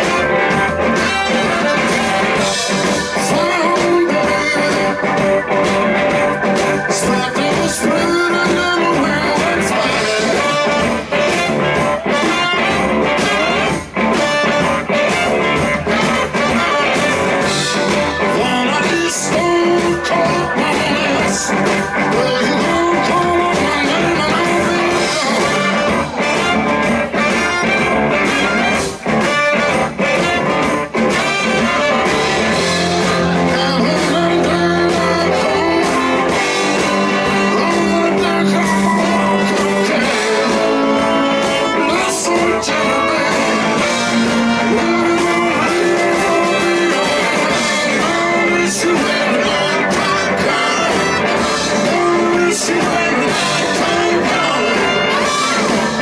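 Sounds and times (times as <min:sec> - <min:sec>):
electric guitar: 0:00.0 - 0:56.0
live blues-rock band playing: 0:00.0 - 0:56.0.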